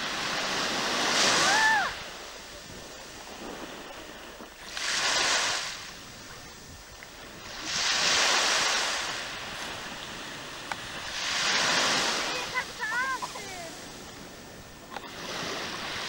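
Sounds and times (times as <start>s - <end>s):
sea waves washing in: 0.0s - 16.0s
steady sea and wind noise: 0.0s - 16.0s.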